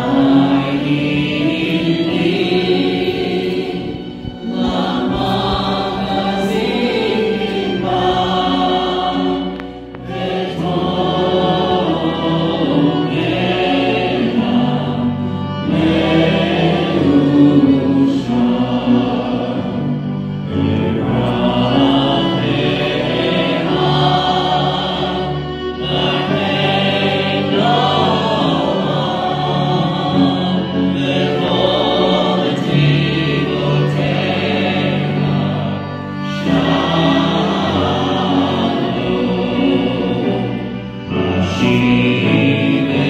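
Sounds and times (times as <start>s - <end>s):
congregation singing: 0.0s - 43.0s.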